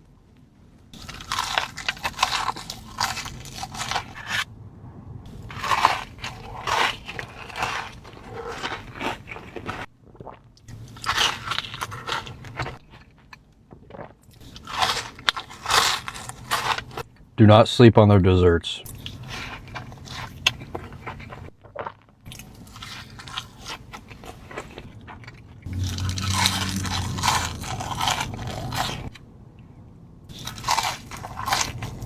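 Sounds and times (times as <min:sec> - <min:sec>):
crunching crisp food: 0:01.0 - 0:04.5, 0:05.3 - 0:17.1, 0:18.9 - 0:29.2, 0:30.3 - 0:32.0.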